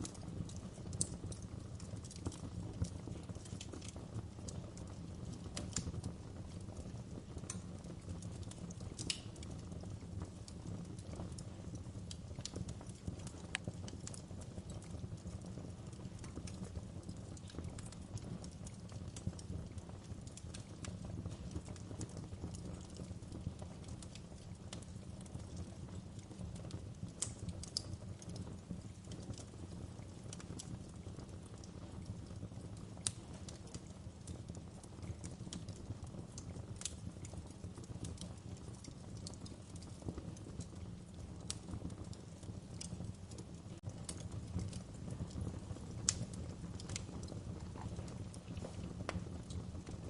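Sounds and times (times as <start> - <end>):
low rumble of burning: 0.0 - 50.0
wood fire crackling: 0.0 - 50.0.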